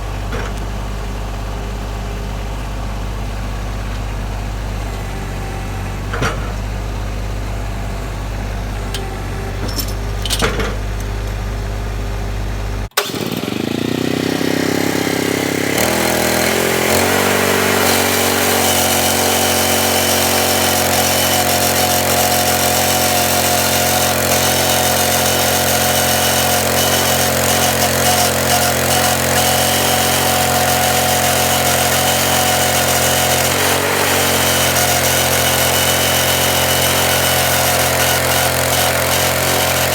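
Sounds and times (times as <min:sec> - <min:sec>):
sawmill engine idling and revving: 0:00.0 - 0:39.9.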